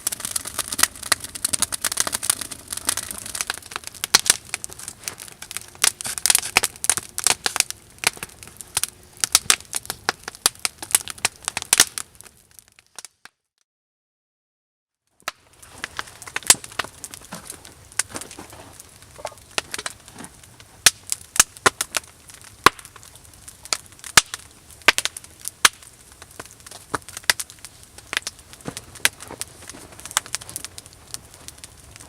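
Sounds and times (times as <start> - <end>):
wood fire crackling: 0.0 - 13.1, 15.1 - 32.0.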